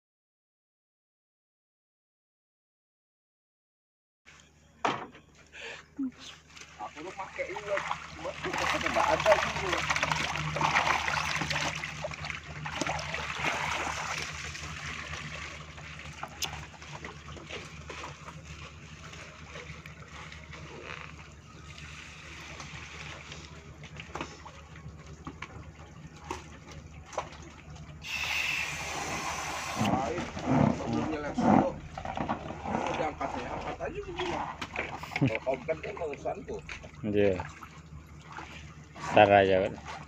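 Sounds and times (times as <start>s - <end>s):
steady low hum: 4.3s - 40.0s
water splashing and sloshing: 4.3s - 40.0s
water trickling and dripping: 6.2s - 40.0s.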